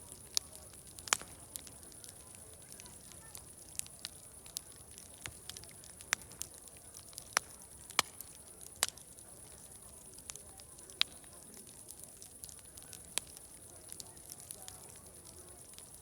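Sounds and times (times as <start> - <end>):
distant crowd chatter: 0.0 - 16.0
wood fire crackling and popping: 0.0 - 16.0.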